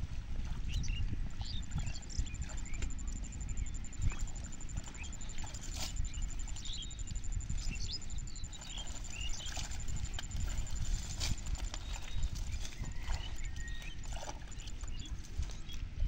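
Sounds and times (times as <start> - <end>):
water and mud sloshing: 0.0 - 16.0.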